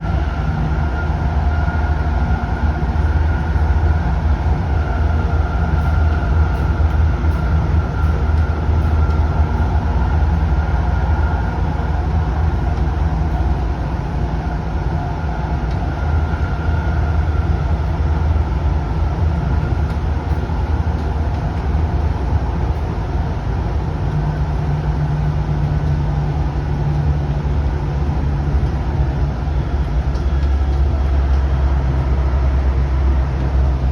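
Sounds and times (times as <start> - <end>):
train rumbling at speed: 0.0 - 33.9.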